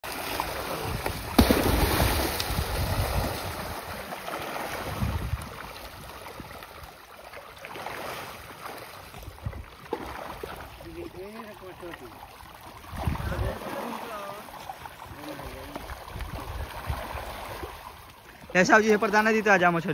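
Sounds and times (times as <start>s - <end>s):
fish splashing and thrashing: 0.0s - 19.9s.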